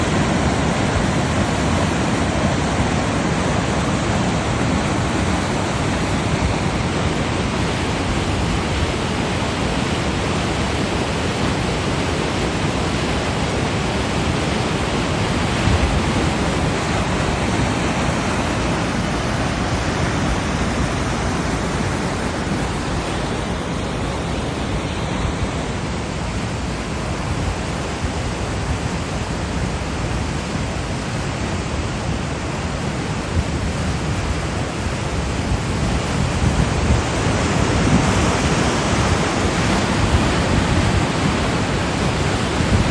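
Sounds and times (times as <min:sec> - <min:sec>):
waterfall rushing: 0:00.0 - 0:33.4, 0:34.0 - 0:42.9.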